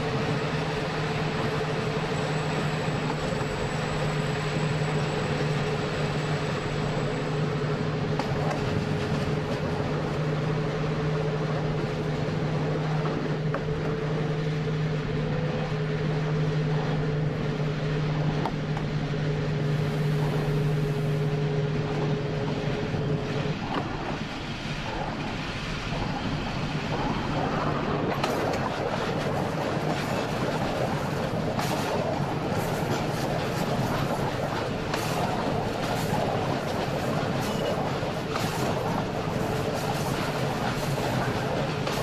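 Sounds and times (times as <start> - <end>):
electric train hum: 0.0 - 42.0
wheels rumbling on rail: 0.0 - 42.0.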